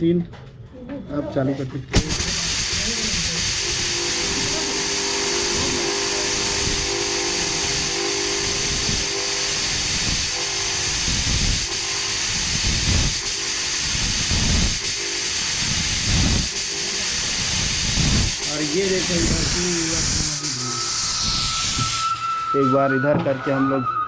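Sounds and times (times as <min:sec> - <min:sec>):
fog machine hissing: 0:01.9 - 0:24.0.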